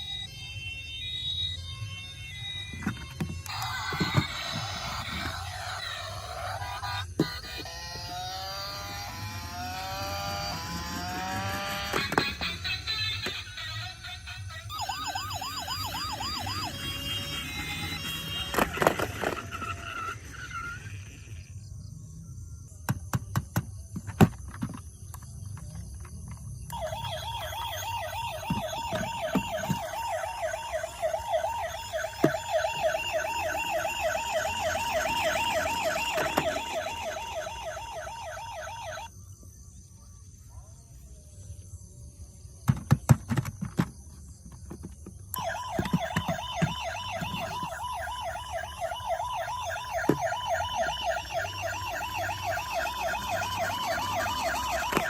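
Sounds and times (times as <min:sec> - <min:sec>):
toy siren warbling: 0:00.0 - 0:21.5, 0:26.6 - 0:39.1, 0:44.8 - 0:55.0.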